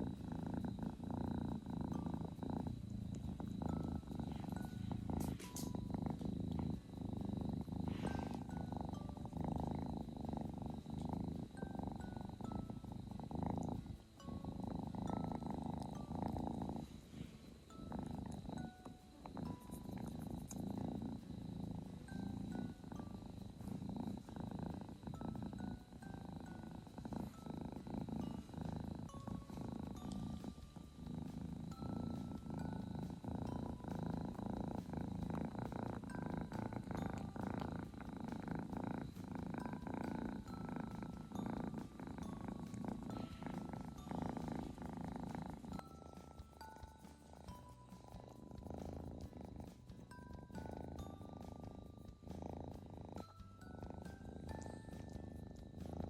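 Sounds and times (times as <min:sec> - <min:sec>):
kitten purring: 0:00.0 - 0:56.0.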